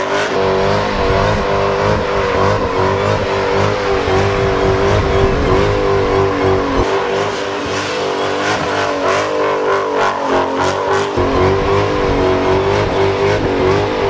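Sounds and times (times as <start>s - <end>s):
car engine revving in burnout: 0.0s - 14.0s.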